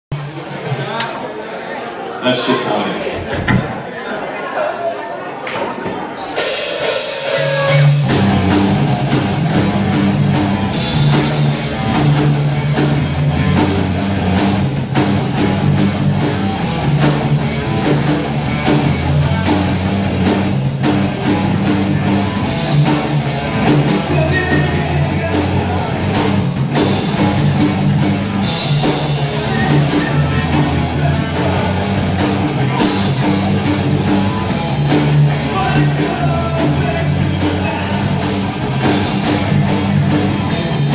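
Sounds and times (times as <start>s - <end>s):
rock band playing live: 5.8s - 40.9s
low bass notes: 7.2s - 40.9s.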